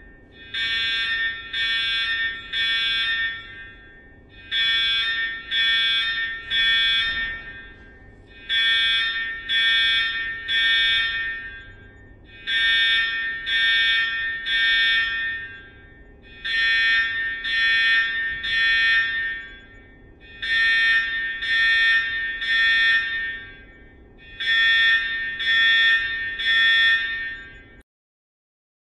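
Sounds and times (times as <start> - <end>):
electronic alarm beeps: 0.0 - 27.8.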